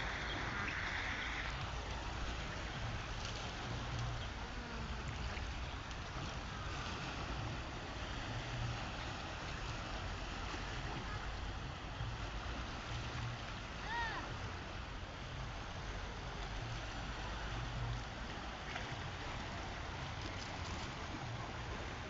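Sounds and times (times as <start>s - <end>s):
sea waves washing: 0.0s - 22.0s.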